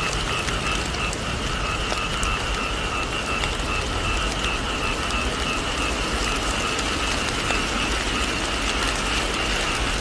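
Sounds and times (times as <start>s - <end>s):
faint drip clicks: 0.0s - 9.7s
rain on a thatched roof: 0.0s - 10.0s.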